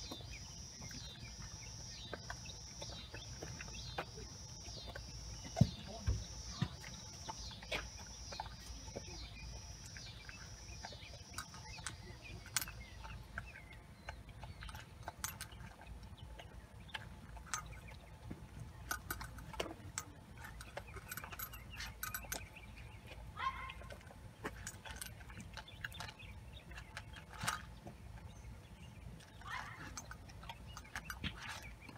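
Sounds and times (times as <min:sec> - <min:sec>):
dog chewing and licking: 0:00.0 - 0:31.9.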